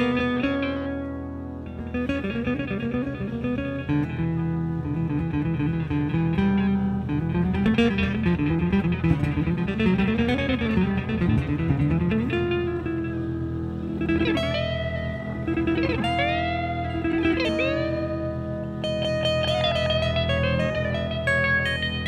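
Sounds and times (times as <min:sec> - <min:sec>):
electric guitar melody: 0:00.0 - 0:22.0.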